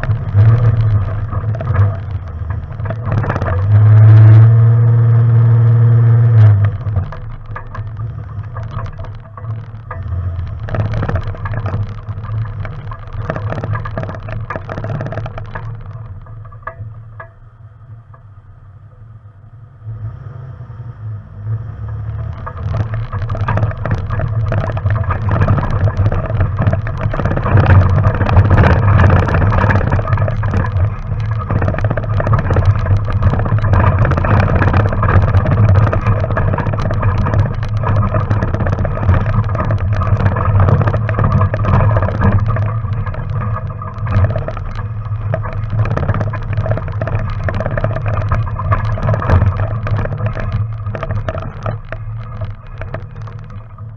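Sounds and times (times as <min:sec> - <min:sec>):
tyres crunching over gravel: 0:00.0 - 0:04.7, 0:06.4 - 0:16.8, 0:21.9 - 0:53.9
off-road vehicle engine running: 0:00.0 - 0:53.9.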